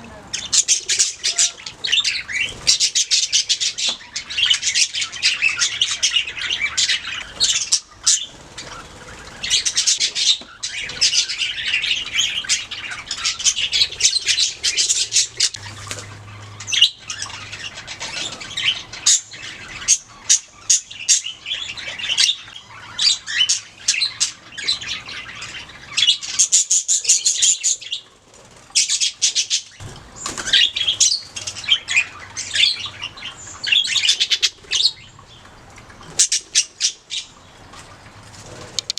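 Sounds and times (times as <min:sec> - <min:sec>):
budgerigars chirping and squawking: 0:00.0 - 0:38.9.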